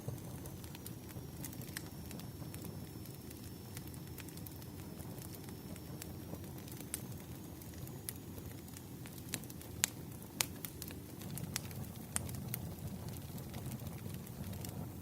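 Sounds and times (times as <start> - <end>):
firewood crackling: 0.0 - 15.0.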